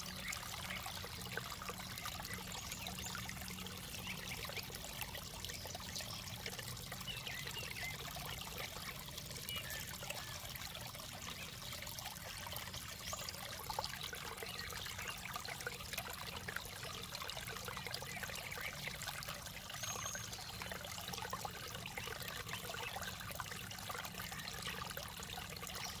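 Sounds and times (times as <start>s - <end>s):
water trickling over stones: 0.0s - 26.0s.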